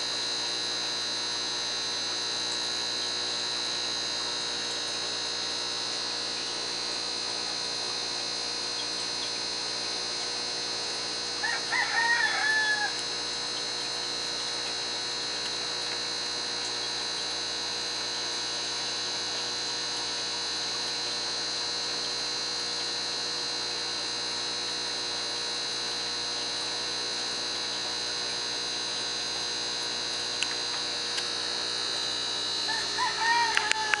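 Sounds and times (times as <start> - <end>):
electrical hum with high whine: 0.0 - 34.0.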